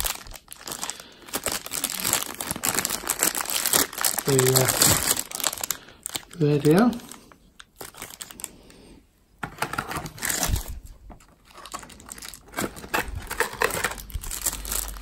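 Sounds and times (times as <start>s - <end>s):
plastic packaging crinkling: 0.0s - 8.6s, 9.4s - 15.0s.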